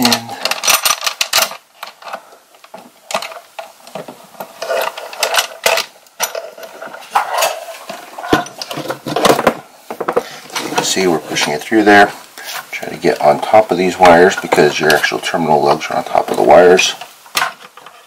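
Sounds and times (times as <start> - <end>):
wires scraping and clicking: 0.0 - 9.4, 10.2 - 18.0.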